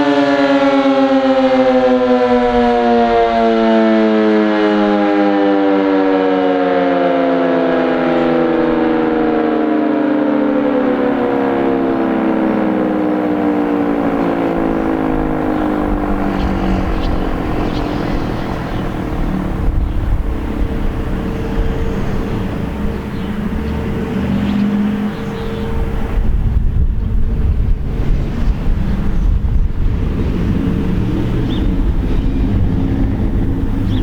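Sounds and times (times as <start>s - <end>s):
two-tone warning siren winding down: 0.0s - 34.0s.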